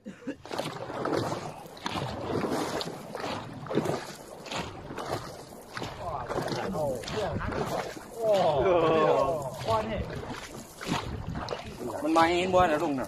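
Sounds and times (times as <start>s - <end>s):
paddles splashing through water: 0.2s - 13.0s
wind on microphone: 0.8s - 12.8s.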